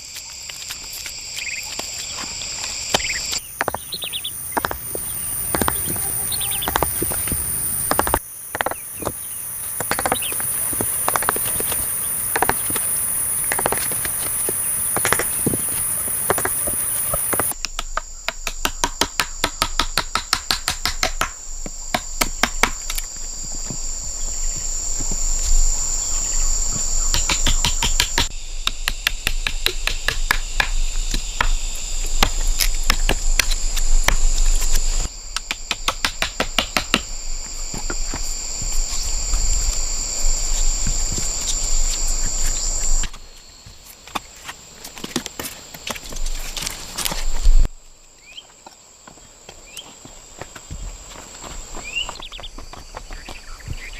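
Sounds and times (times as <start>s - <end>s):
high insect drone: 0.0s - 53.9s.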